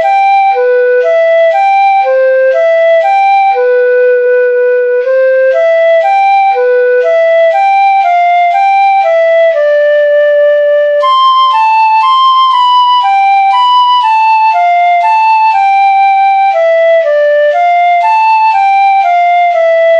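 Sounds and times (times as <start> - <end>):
flute-like wind instrument melody: 0.0 - 19.9.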